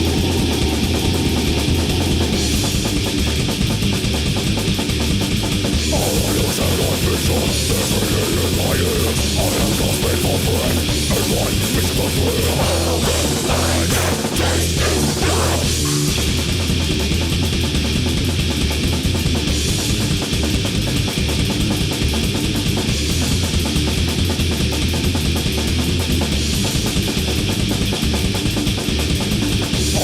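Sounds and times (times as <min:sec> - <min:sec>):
distorted guitars: 0:00.0 - 0:30.0
fast drumming: 0:00.0 - 0:30.0.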